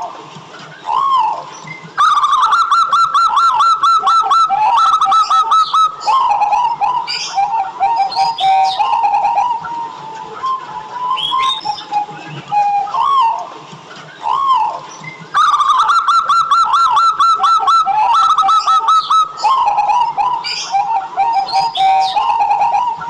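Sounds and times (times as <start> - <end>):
doves calling: 0.0 - 23.0
staccato dove cooing: 0.0 - 23.0
fast repeated short bird notes: 0.7 - 10.4, 14.0 - 23.0.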